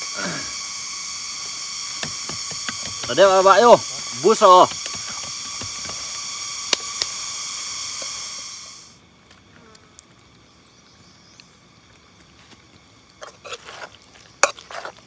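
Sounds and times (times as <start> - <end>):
high-pitched buzzing hiss: 0.0 - 15.0.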